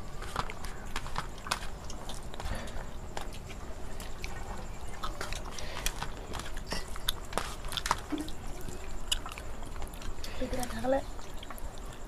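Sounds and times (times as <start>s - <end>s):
chewing and mouth sounds: 0.1s - 12.0s.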